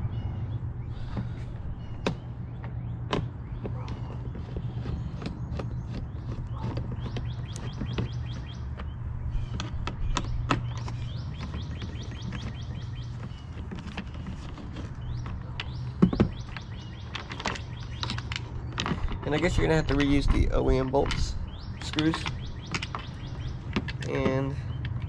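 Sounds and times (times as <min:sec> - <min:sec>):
small birds chirping: 0:00.0 - 0:25.0
sharp knocks and clicks: 0:02.0 - 0:25.0.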